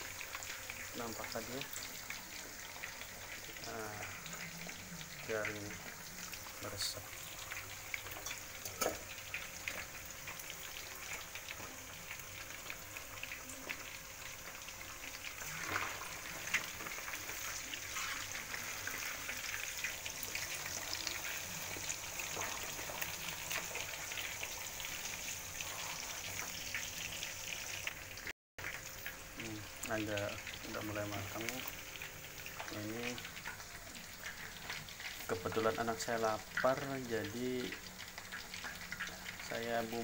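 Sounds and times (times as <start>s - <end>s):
chicken deep-frying in hot oil: 0.0s - 40.0s
hot oil popping: 0.0s - 40.0s.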